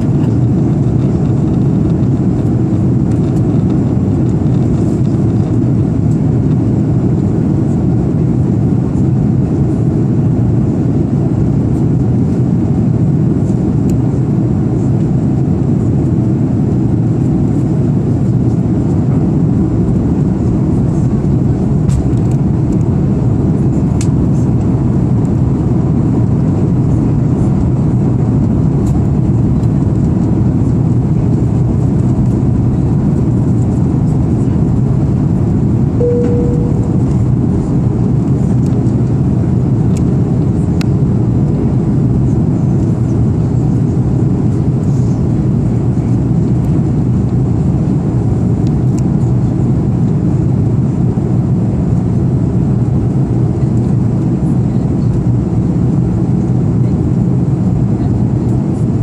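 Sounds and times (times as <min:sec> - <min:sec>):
jet engine rumble: 0:00.0 - 0:59.0.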